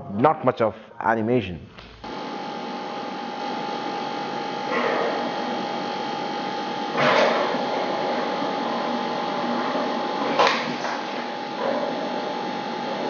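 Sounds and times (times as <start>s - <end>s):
mechanical hum with whine: 1.6s - 13.0s.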